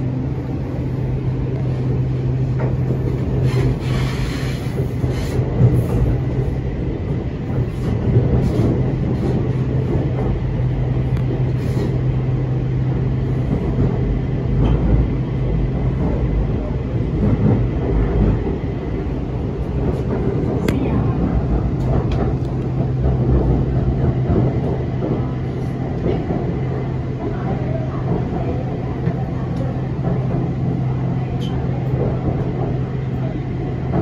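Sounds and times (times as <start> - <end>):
electric train hum: 0.0 - 34.0
train wheels rumbling: 0.0 - 34.0.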